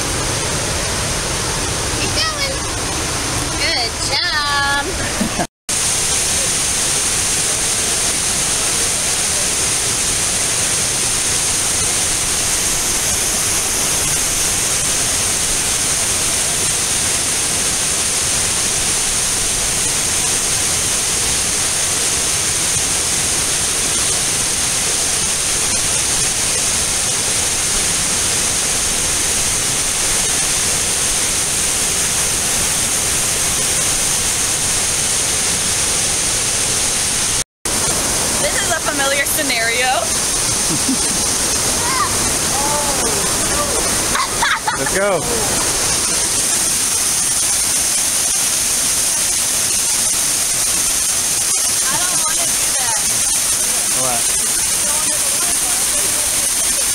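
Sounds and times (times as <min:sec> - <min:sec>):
waterfall roaring: 0:00.0 - 0:56.9.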